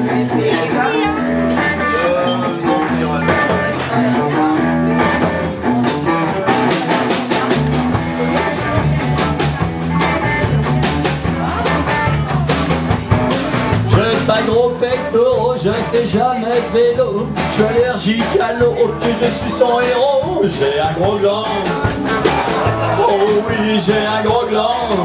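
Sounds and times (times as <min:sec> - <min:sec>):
electric guitars playing: 0:00.0 - 0:25.0
drum beat: 0:02.7 - 0:25.0.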